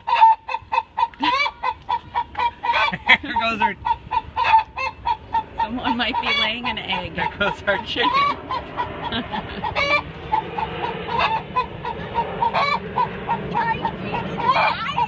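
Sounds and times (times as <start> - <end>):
hen clucking: 0.0 - 15.0
hen squawking: 0.0 - 15.0.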